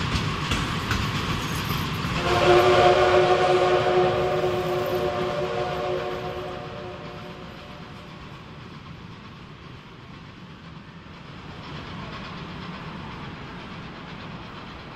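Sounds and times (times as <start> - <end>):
train wheels running over rails: 0.0 - 14.9.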